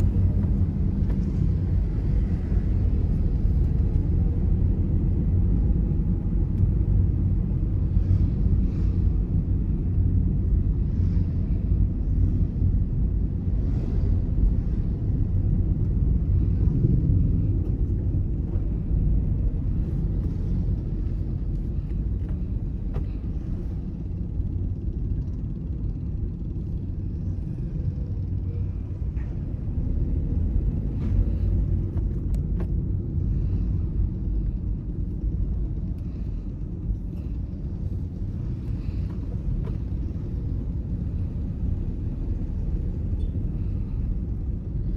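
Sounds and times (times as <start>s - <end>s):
car engine rumble: 0.0s - 44.9s
tyre road noise: 0.0s - 44.9s.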